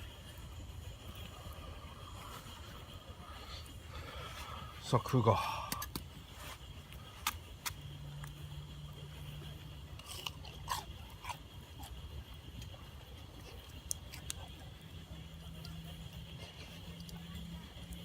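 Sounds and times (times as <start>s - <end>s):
campfire crackling: 0.0s - 18.0s
high-pitched background hum: 0.0s - 18.0s.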